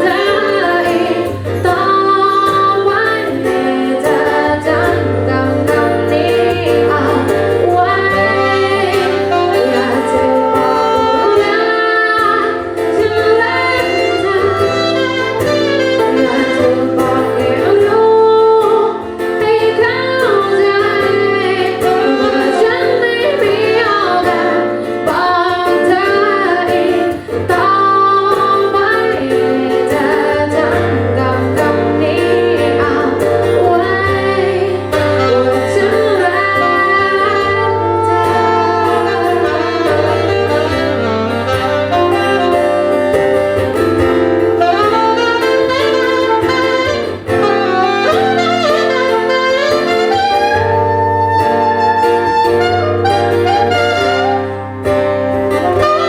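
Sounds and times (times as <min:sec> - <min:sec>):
person singing: 0:00.0 - 0:54.8, 0:55.5 - 0:56.0
band playing: 0:00.0 - 0:56.0
saxophone lead melody: 0:00.0 - 0:56.0.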